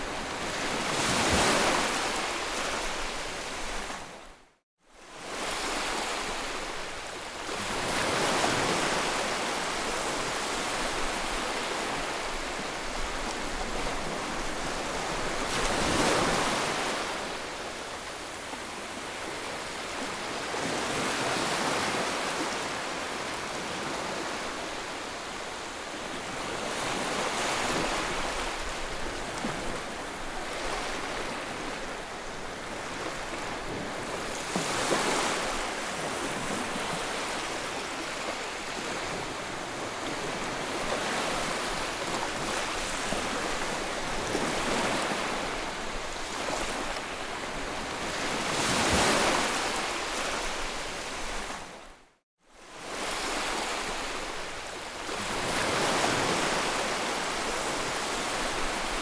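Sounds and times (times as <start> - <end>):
ocean waves washing onto shore: 0.0 - 4.4, 5.0 - 59.0.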